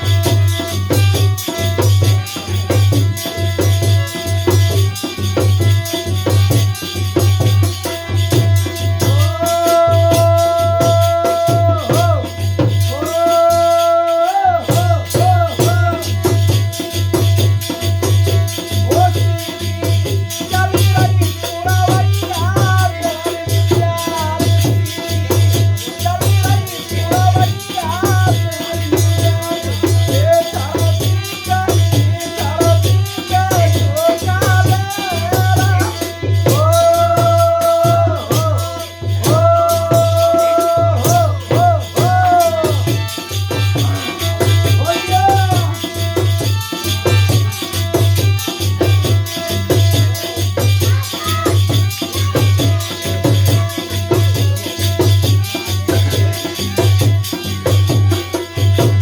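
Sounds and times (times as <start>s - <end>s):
drum beat: 0.0s - 59.0s
person singing: 9.0s - 16.4s, 18.5s - 59.0s.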